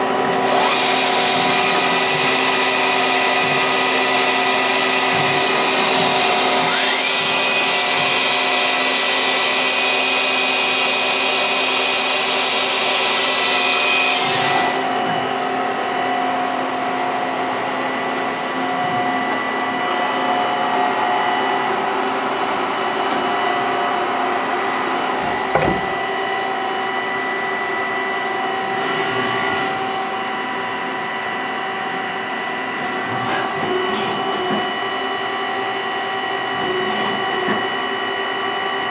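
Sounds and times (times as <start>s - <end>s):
lathe motor and spindle whine: 0.0s - 38.9s.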